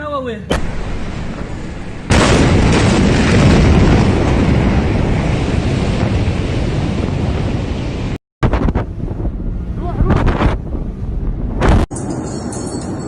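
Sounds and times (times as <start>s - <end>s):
explosion blast and roar: 0.5s - 11.9s.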